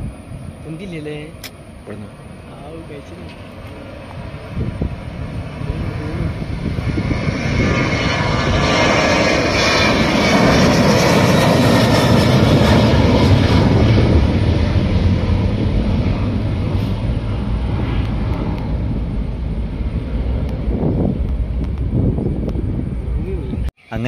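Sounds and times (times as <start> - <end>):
airliner engines roaring: 0.0 - 24.0.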